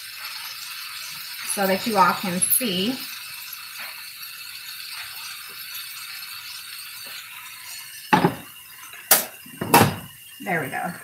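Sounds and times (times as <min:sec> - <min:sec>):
chicken sizzling in skillet: 0:00.0 - 0:11.0.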